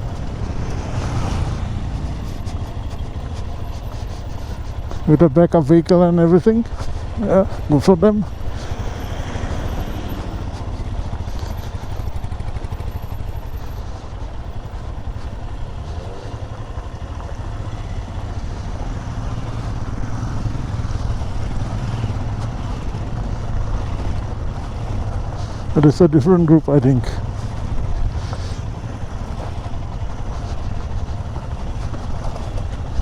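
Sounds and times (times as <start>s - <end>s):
motorcycle engine drone: 0.0s - 33.0s
road noise: 0.0s - 33.0s.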